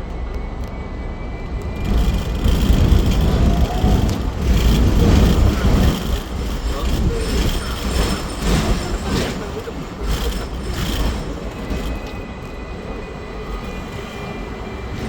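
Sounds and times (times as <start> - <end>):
tram wheels rumbling and rattling: 0.0 - 15.0.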